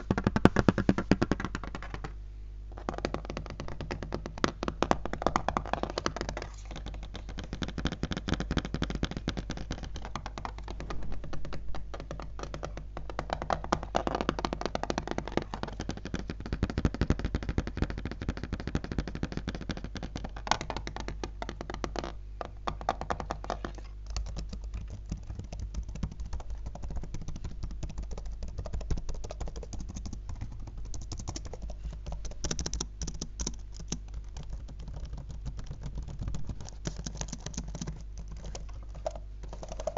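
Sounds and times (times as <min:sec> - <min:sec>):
fingertips tapping on laptop: 0:00.0 - 0:02.1, 0:02.7 - 0:39.9.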